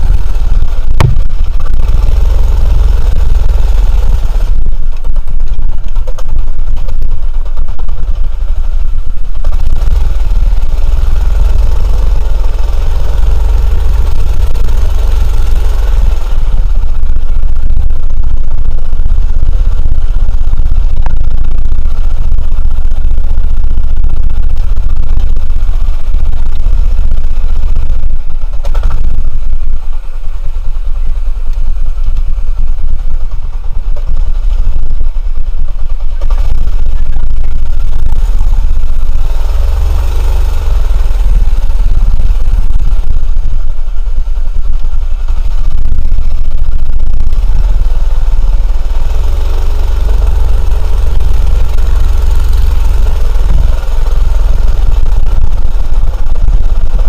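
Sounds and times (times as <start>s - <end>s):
go-kart engine running rough: 0.0s - 57.0s.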